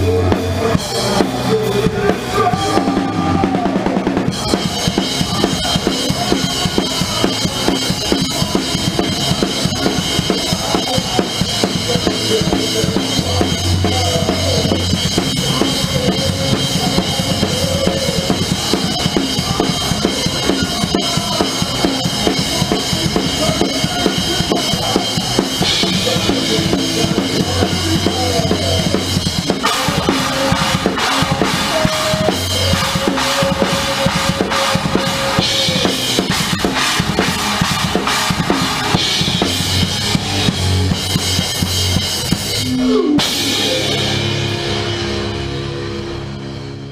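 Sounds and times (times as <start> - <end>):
rock band playing: 0.0 - 46.9.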